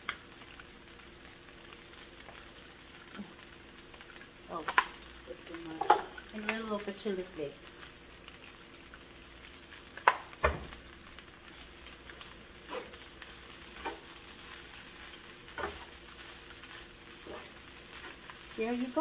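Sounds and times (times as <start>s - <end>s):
rice sizzling in a skillet: 0.0s - 19.0s.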